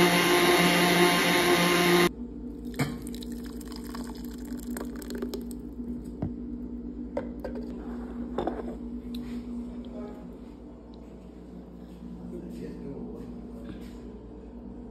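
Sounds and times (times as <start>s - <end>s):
steady low hum: 1.9s - 14.9s.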